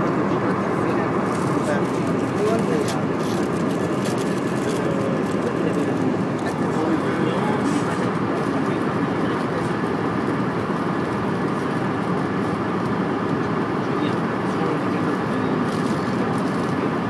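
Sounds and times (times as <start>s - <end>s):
aircraft cabin engine rush: 0.0s - 17.0s.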